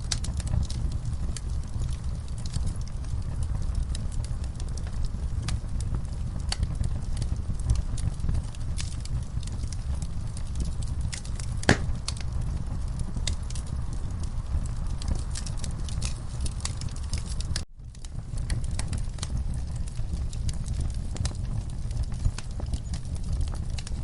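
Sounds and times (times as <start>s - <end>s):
logs burning with crackles: 0.0s - 24.0s.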